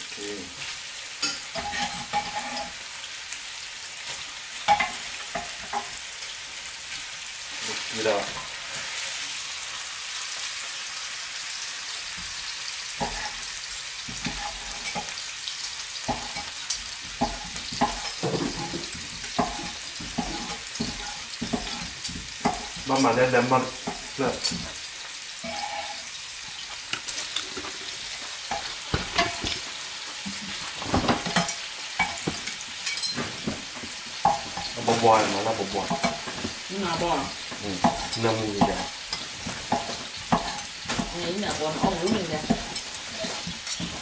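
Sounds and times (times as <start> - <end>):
steak sizzling in frying pan: 0.0 - 44.0.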